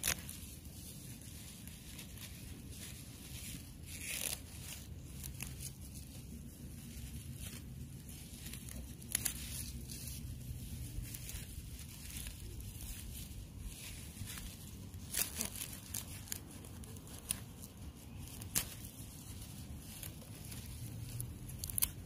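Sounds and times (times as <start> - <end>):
leaves rustling and tearing: 0.0 - 22.0.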